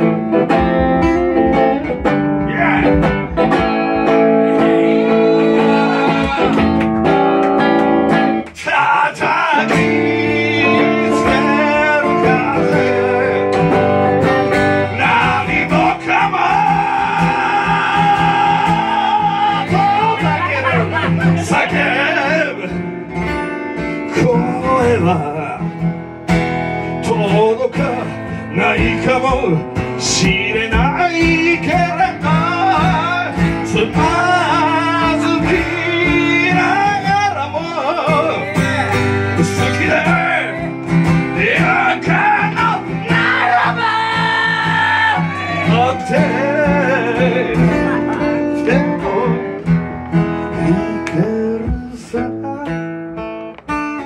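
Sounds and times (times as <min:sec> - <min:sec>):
guitar accompaniment: 0:00.0 - 0:54.0
person singing: 0:02.4 - 0:07.7, 0:08.5 - 0:22.9, 0:24.0 - 0:25.7, 0:27.0 - 0:49.7, 0:50.3 - 0:52.8.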